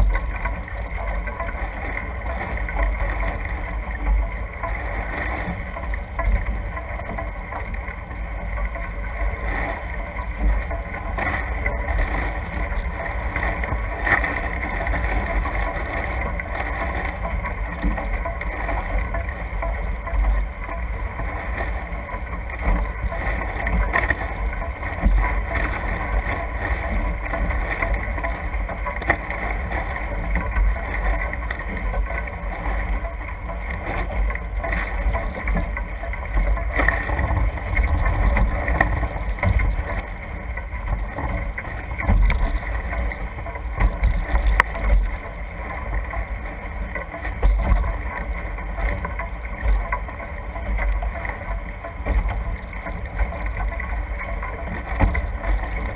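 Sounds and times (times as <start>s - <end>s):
water rushing past hulls: 0.0s - 55.9s.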